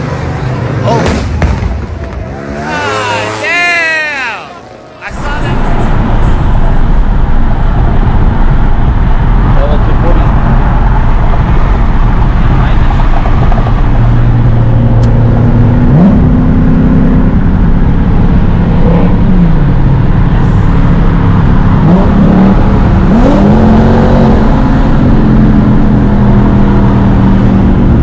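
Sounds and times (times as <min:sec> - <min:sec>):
car engine accelerating: 0:00.0 - 0:28.0
road and tyre noise: 0:00.0 - 0:28.0.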